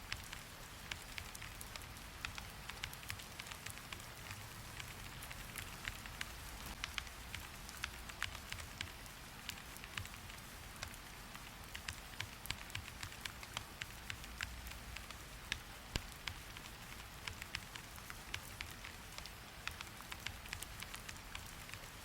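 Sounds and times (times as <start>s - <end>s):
rain hiss: 0.0s - 22.0s
sharp ticks: 0.1s - 10.2s, 11.6s - 21.9s.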